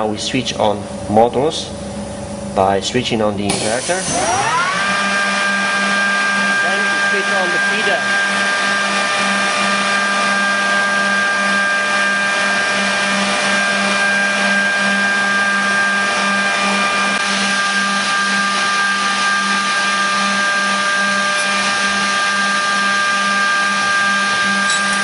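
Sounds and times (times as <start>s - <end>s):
machine hum with whining tones: 0.0s - 25.0s.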